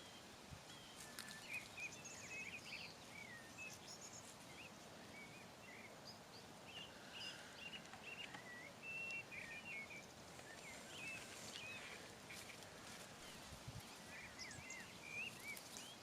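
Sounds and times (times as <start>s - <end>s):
small birds chirping: 0.0s - 16.0s
soft outdoor hiss: 0.0s - 16.0s.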